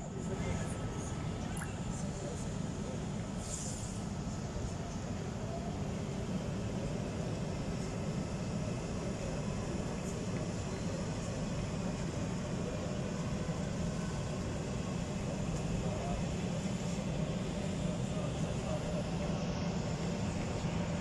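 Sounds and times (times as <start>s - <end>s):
railway station ambience: 0.0s - 21.0s.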